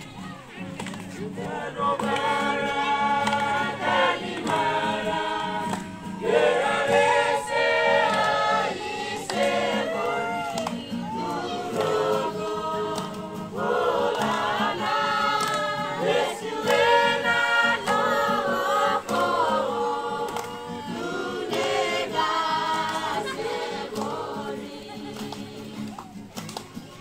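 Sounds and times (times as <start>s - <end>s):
acoustic guitar: 0.0s - 27.0s
group singing: 1.0s - 26.2s.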